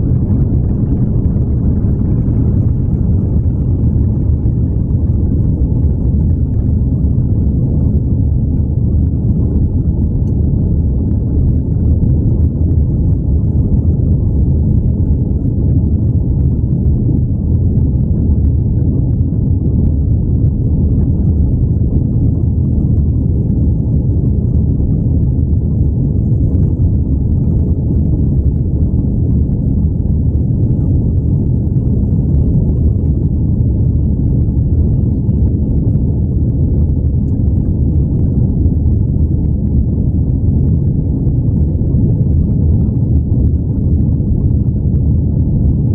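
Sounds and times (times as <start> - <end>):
airplane engines rumbling: 0.0 - 45.9.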